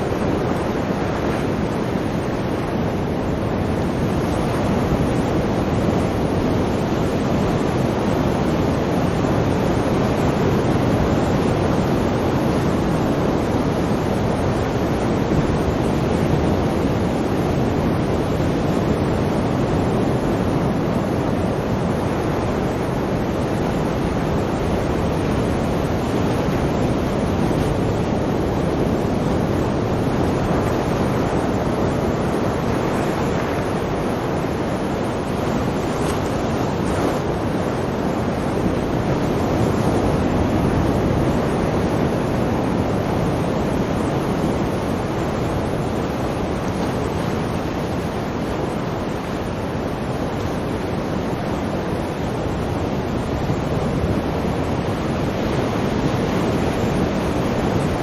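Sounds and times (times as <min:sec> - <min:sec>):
sea surf rushing: 0:00.0 - 0:58.0.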